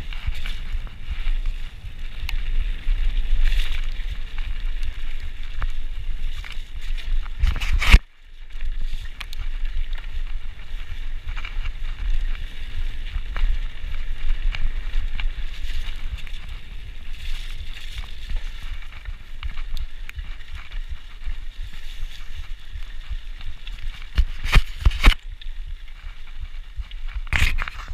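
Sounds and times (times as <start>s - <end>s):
bike rattles and clicks: 0.0s - 27.9s
bike tyres rumbling on dirt: 0.0s - 27.9s.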